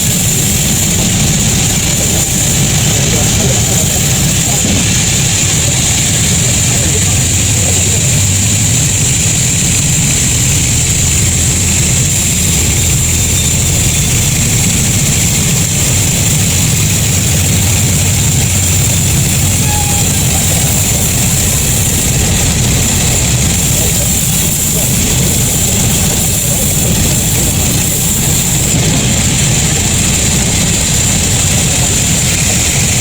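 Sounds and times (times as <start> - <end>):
high-pitched machine whine: 0.0 - 33.0
machinery low hum: 0.0 - 33.0.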